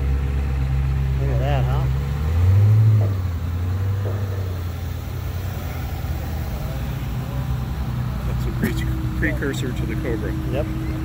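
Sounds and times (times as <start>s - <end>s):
car engine humming passing by: 0.0s - 11.0s.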